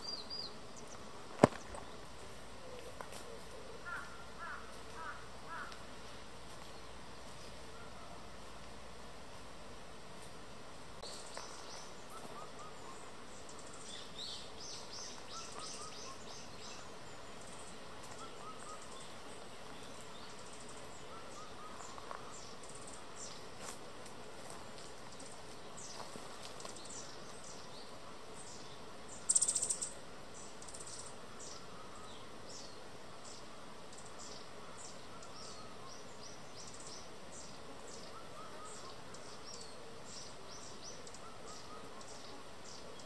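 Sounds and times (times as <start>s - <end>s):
wild birds chirping: 0.0s - 8.4s, 11.0s - 23.8s, 24.7s - 43.0s
background hiss: 0.0s - 43.0s.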